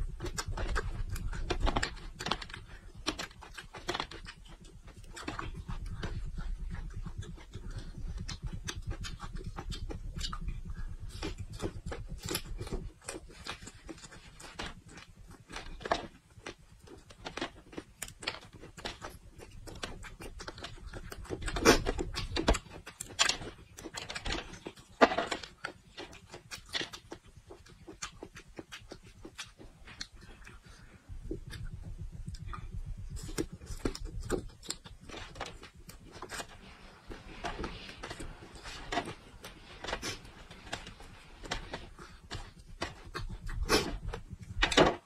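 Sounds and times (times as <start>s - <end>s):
chili peppers crunching and snapping: 0.0s - 45.0s.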